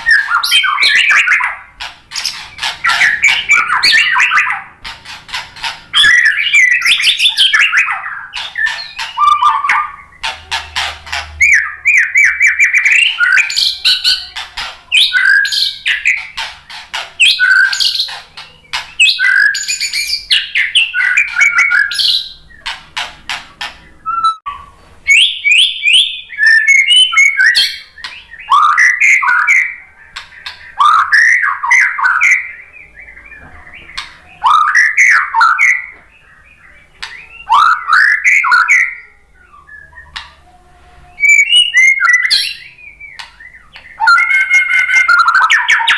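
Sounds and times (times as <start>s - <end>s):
bird singing varied song: 0.0s - 45.9s.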